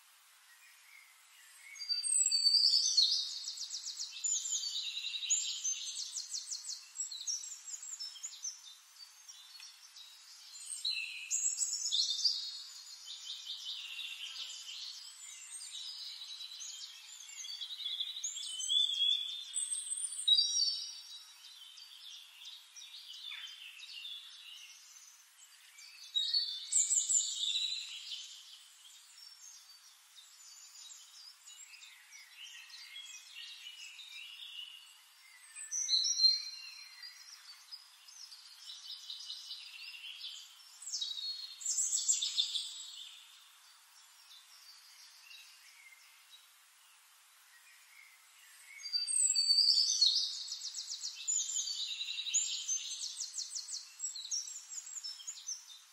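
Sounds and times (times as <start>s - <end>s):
bird chirping: 0.4s - 55.9s
songbird trilled song: 0.5s - 55.9s.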